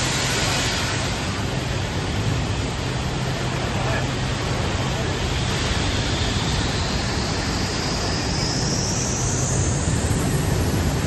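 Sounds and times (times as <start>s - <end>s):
faint high whine: 0.0s - 11.0s
industrial machinery roar: 0.0s - 11.0s.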